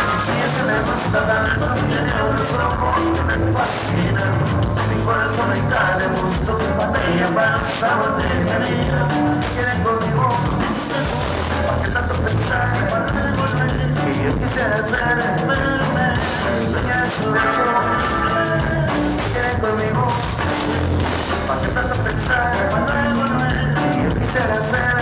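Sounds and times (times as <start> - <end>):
acoustic guitar: 0.0 - 25.0
button accordion lead: 0.0 - 25.0
drum kit beat: 0.0 - 25.0.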